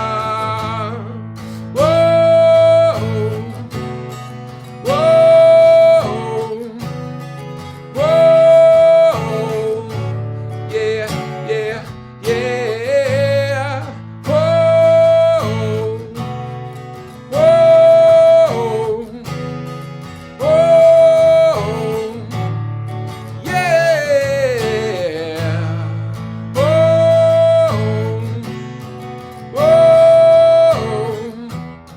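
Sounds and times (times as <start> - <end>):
acoustic guitar improvisation: 0.0 - 31.9
repeating guitar loop: 0.0 - 31.9.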